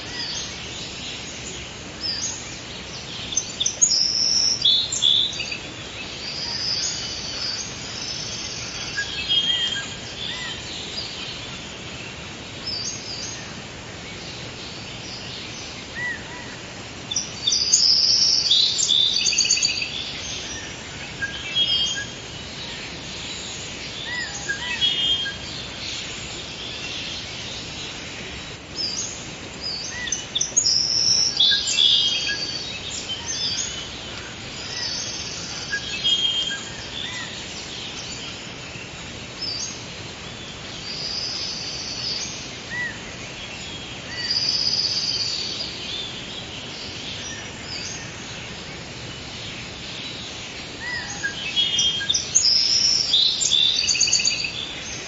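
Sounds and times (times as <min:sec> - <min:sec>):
songbirds chirping and trilling: 0:00.0 - 0:55.0
steady background hiss: 0:00.0 - 0:55.0.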